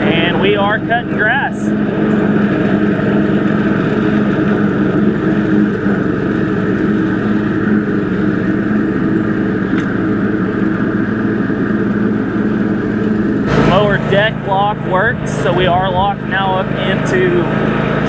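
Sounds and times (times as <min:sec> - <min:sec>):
riding mower engine running: 0:00.0 - 0:18.0.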